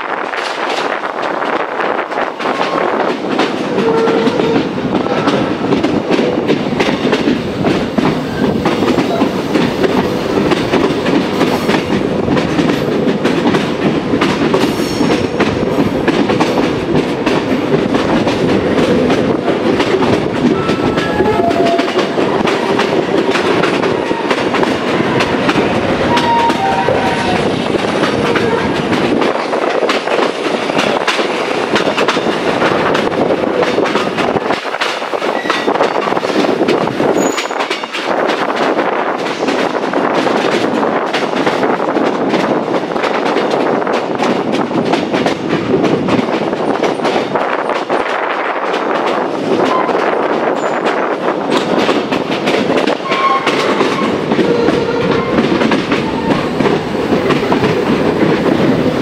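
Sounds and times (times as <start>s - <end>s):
train rumbling: 0.0s - 59.0s
wheels clattering on rails: 0.0s - 59.0s.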